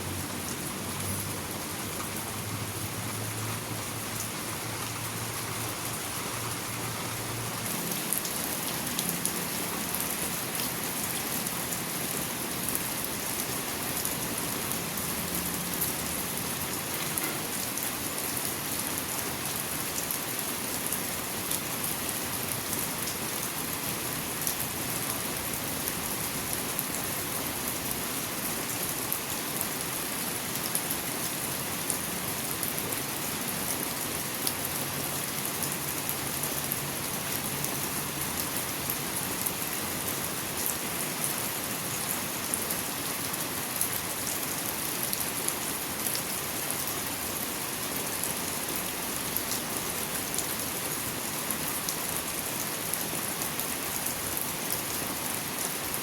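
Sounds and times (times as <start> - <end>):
rain drops pattering: 0.0 - 56.0.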